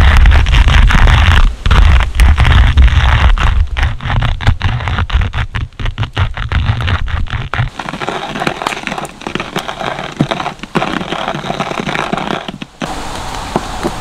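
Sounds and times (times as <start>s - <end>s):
coffee grinder crushing beans: 0.0s - 12.8s.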